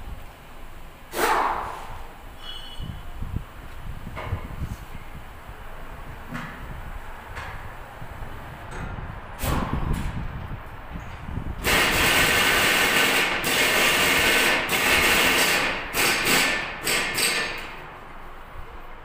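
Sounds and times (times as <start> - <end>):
loud steady hiss: 0.0 - 8.6, 11.5 - 19.0.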